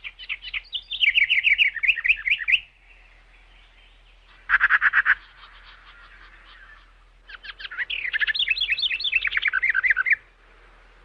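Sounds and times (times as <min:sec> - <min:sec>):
birds chirping in rapid trills: 0:00.0 - 0:10.3.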